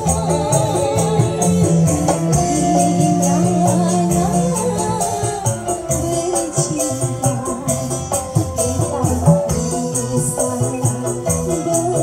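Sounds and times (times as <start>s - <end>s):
drums: 0.0s - 12.0s
keyboard melody: 0.0s - 12.0s.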